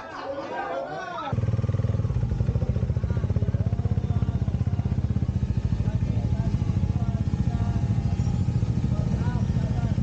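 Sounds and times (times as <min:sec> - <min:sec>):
faint voices: 0:00.0 - 0:10.0
motorcycle engine idling: 0:01.3 - 0:10.0.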